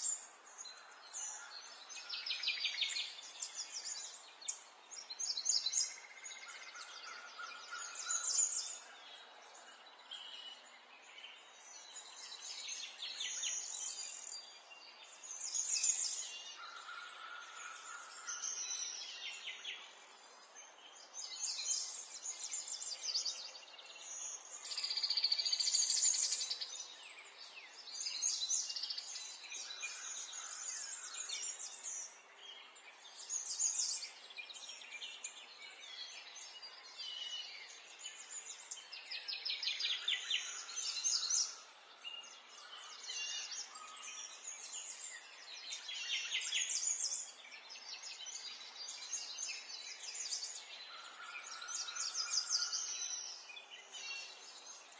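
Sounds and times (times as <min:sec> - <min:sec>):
songbirds singing and chirping: 0:00.0 - 0:54.9.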